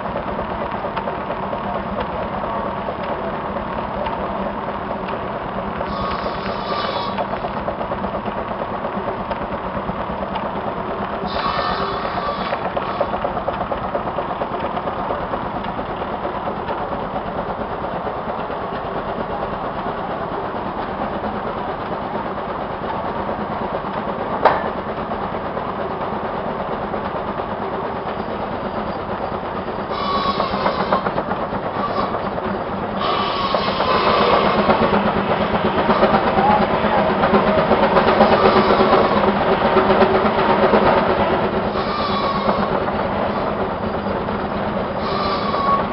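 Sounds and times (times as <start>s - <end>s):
old engine running: 0.0s - 45.9s.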